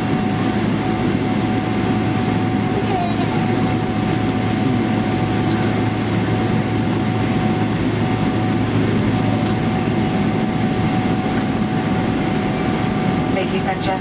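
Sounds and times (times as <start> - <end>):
engine and wheel rumble: 0.0 - 14.0
steady hum: 0.0 - 14.0.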